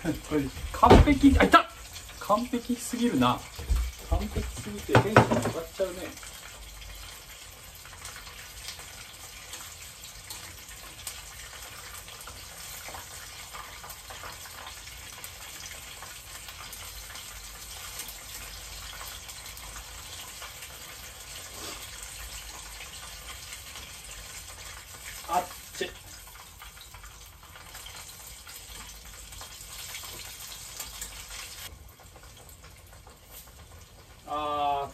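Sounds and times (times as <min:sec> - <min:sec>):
food deep-frying in oil: 0:00.0 - 0:34.9.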